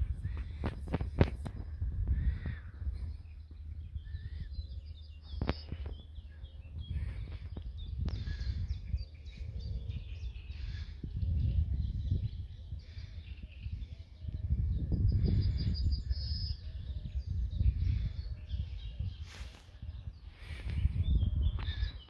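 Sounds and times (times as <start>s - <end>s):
small birds singing and chirping: 0.0s - 22.0s.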